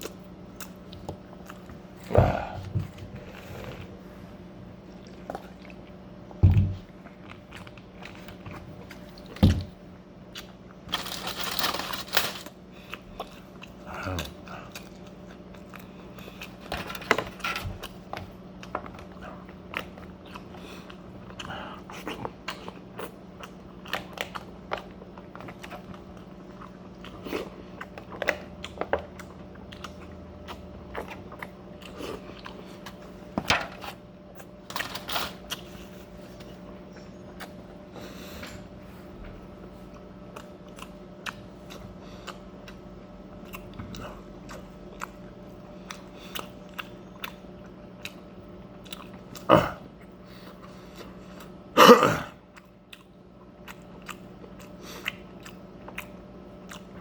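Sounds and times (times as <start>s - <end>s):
chewing and crunching food: 0.0s - 57.0s
steady low hum: 0.0s - 57.0s.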